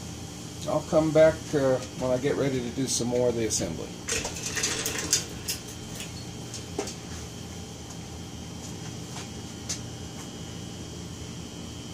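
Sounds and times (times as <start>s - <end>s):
room hum: 0.0s - 11.9s.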